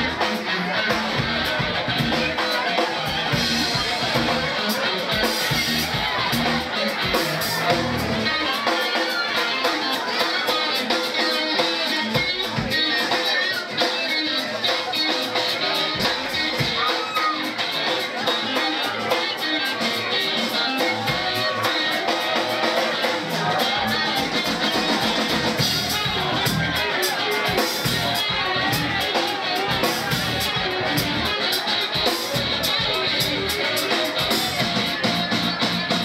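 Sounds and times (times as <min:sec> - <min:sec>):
drum kit cymbal beat: 0:00.0 - 0:36.0
electric guitar lines: 0:00.0 - 0:36.0.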